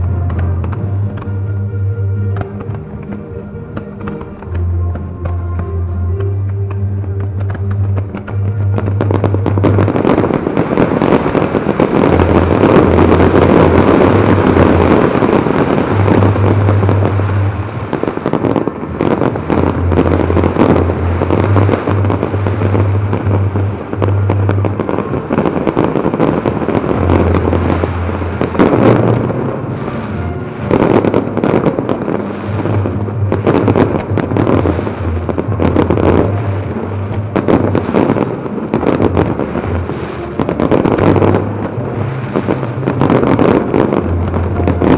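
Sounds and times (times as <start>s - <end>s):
fireworks launches and bangs: 0.0s - 44.9s.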